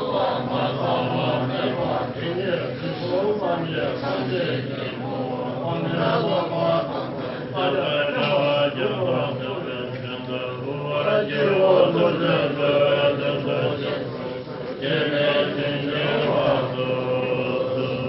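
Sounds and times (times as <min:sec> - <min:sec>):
monks chanting together: 0:00.0 - 0:18.0.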